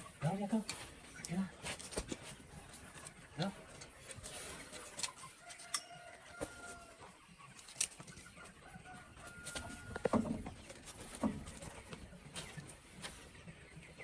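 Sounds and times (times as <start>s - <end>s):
chickens clucking and calling: 0.0s - 14.0s.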